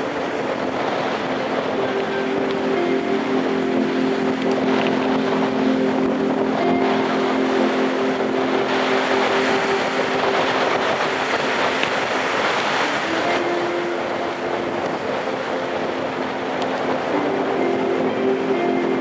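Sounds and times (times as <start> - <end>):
low drone: 0.0 - 19.0
strong wind blowing: 0.0 - 19.0.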